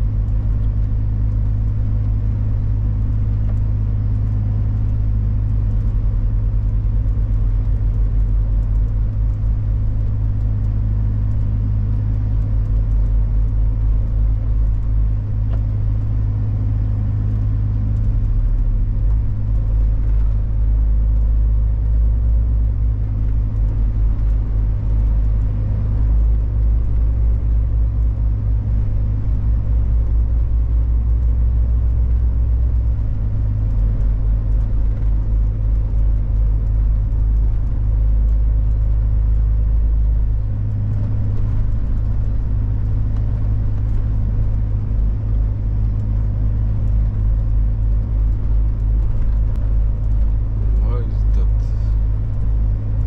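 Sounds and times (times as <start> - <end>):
truck diesel engine droning: 0.0 - 53.0.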